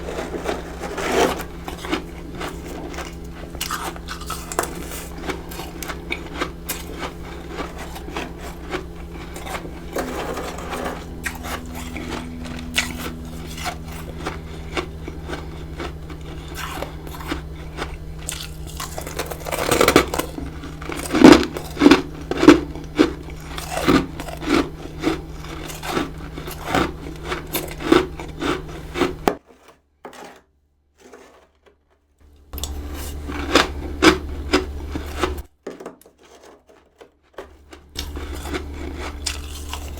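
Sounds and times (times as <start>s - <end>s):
chewing crunchy frost: 0.0s - 29.4s, 32.2s - 35.5s, 37.3s - 39.9s.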